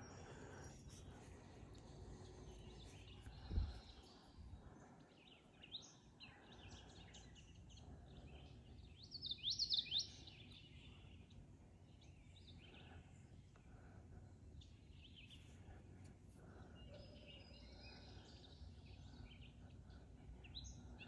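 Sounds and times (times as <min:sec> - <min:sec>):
birds singing and calling: 0:00.0 - 0:21.0.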